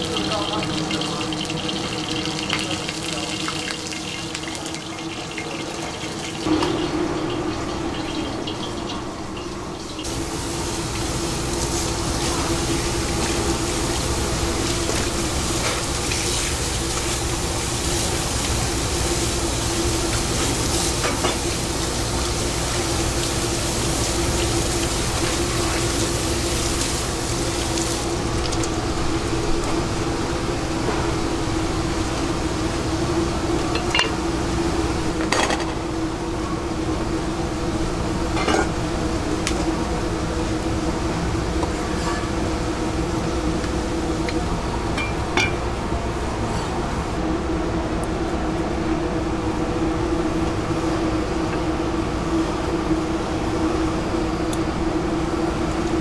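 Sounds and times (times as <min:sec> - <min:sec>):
steady hum: 0:06.2 - 0:56.0.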